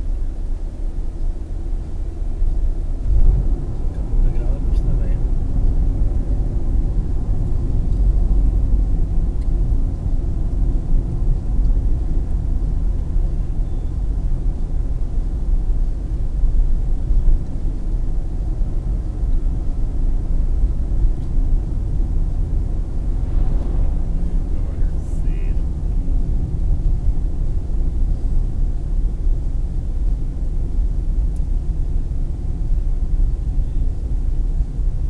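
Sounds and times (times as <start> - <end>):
car engine: 0.0 - 34.9
tyre road noise on asphalt: 0.0 - 35.0.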